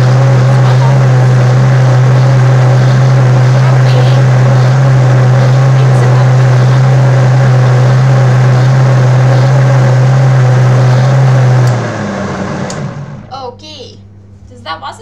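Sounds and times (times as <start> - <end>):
blender motor running: 0.0 - 13.3.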